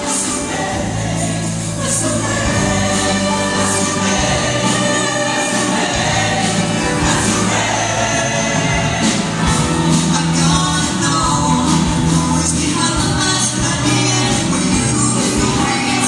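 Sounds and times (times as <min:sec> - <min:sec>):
choir singing: 0:00.0 - 0:16.0
upbeat accompaniment: 0:00.0 - 0:16.0.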